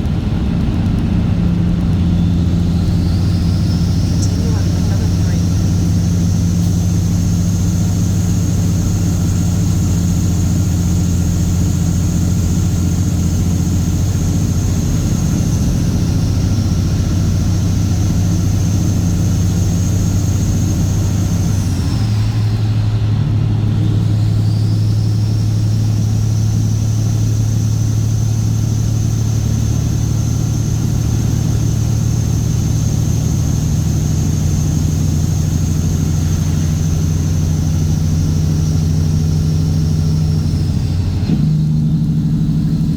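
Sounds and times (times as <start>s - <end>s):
diesel truck engine droning: 0.0s - 42.9s
high whine: 0.0s - 42.9s.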